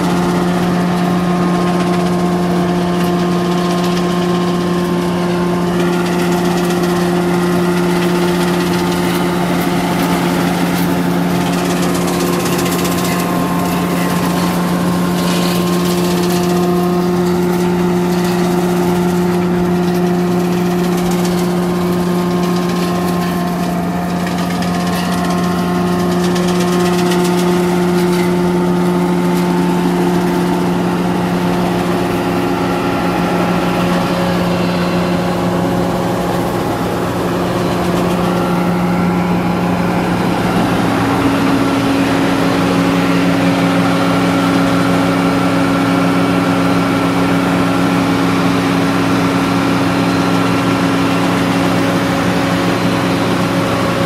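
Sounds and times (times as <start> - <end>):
harvester engine hum: 0.0 - 54.0
branches rustling and rattling: 1.4 - 47.8.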